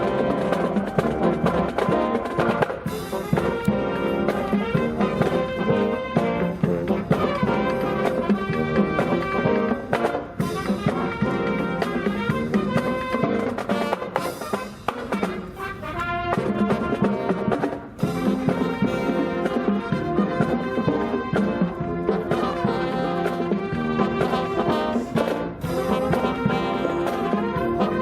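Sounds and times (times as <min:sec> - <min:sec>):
marching band playing: 0:00.0 - 0:28.0
snare and bass drums: 0:00.0 - 0:28.0
trumpets and trombones: 0:00.0 - 0:28.0.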